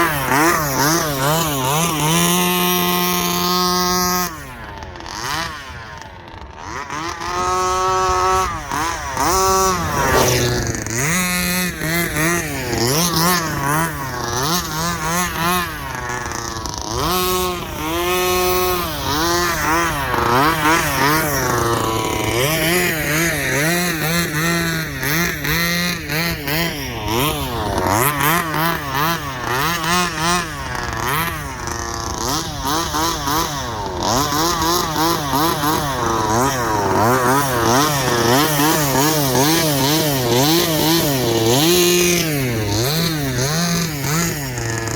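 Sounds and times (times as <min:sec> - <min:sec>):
small two-stroke engine revving: 0:00.0 - 0:44.9.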